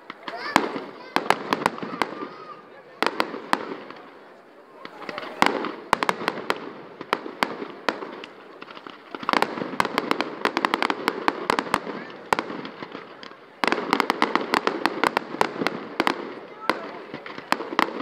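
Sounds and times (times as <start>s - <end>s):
fireworks crackling: 0.0s - 18.0s
fireworks cracks and pops: 0.0s - 18.0s.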